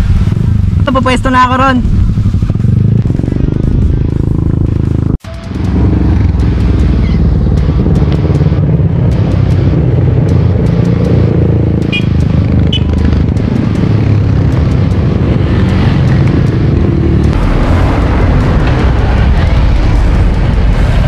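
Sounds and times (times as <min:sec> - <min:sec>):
motorcycles riding past: 0:00.0 - 0:21.0.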